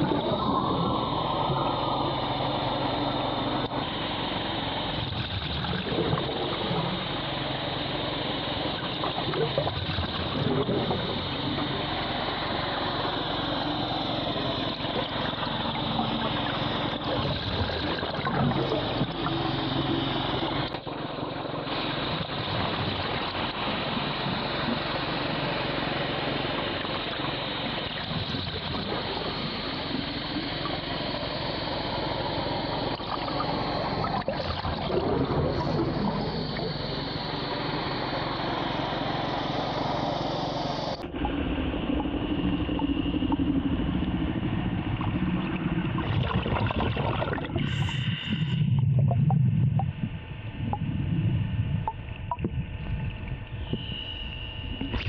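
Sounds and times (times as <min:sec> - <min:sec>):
low mechanical hum: 0:00.0 - 0:55.0
underwater water noise: 0:00.0 - 0:55.0.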